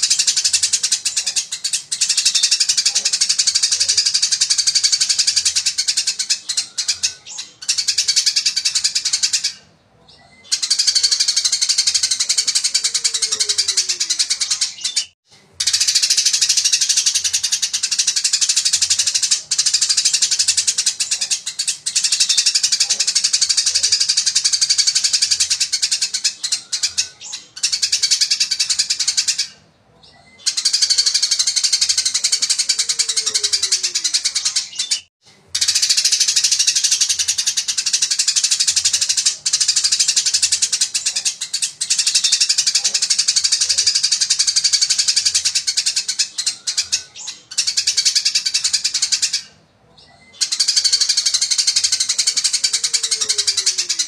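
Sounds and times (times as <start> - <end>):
sparrow chattering: 0.0 - 54.0.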